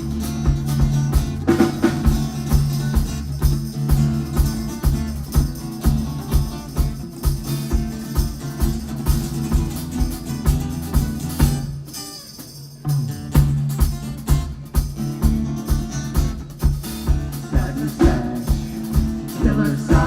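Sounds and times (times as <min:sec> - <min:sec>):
bass line: 0:00.0 - 0:11.7, 0:13.1 - 0:20.0
drum kit beat: 0:00.0 - 0:20.0
instrumental rock band playing: 0:00.0 - 0:20.0.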